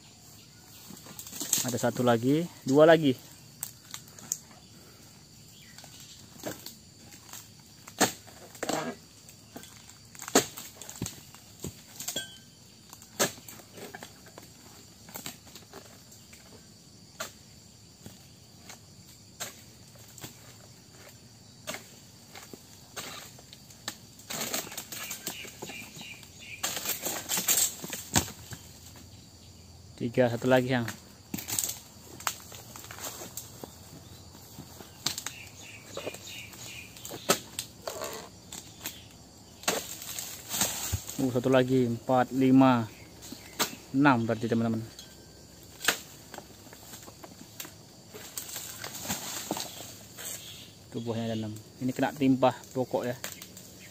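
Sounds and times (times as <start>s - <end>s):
high insect drone: 0.0s - 53.9s
palm fronds rustling: 0.2s - 53.9s.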